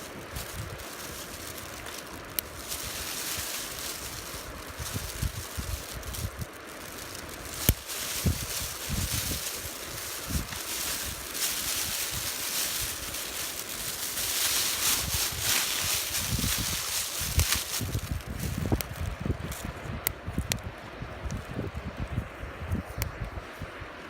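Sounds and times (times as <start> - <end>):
wood fire burning: 0.0 - 20.6
wind buffeting microphone: 0.0 - 24.0.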